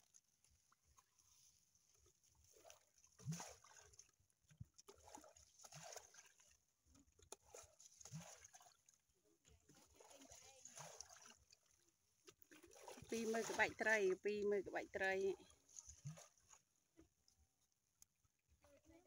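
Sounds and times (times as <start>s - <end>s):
bucket scooping muddy water: 0.0s - 17.4s.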